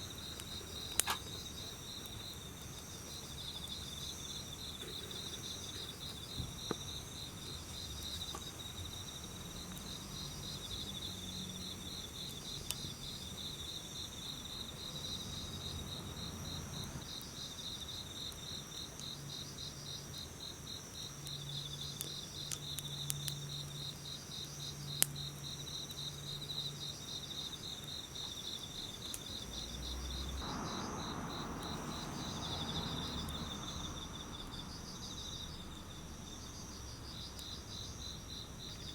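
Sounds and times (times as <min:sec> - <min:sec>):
insects chirping in trills: 0:00.0 - 0:38.9
wood fire crackling: 0:00.0 - 0:38.9.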